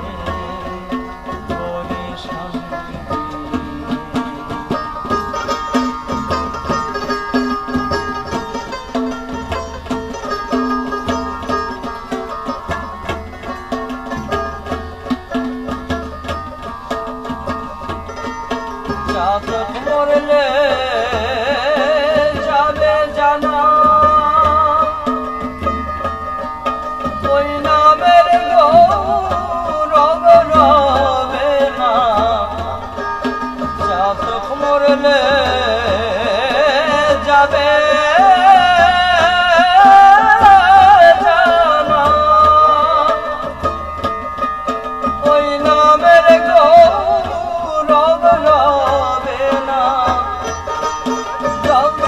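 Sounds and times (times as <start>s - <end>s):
man singing folk song: 0.0s - 8.9s, 16.8s - 26.1s, 26.9s - 44.2s, 44.8s - 52.0s
hand drum beat: 0.0s - 52.0s
harmonium: 0.0s - 52.0s.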